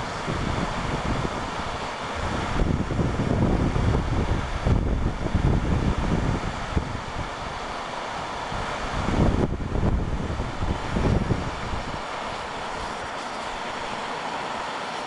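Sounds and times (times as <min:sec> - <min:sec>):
wind buffeting microphone: 0:00.0 - 0:14.1
steady rushing hiss: 0:00.0 - 0:15.0.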